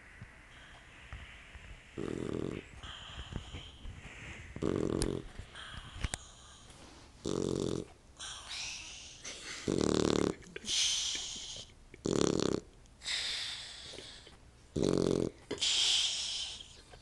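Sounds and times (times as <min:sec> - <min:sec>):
puppy snoring: 0:01.9 - 0:06.4, 0:07.2 - 0:16.7.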